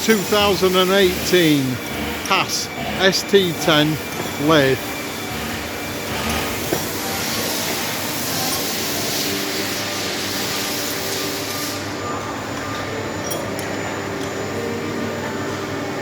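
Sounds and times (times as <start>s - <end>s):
machine-shop hum: 0.0s - 16.0s.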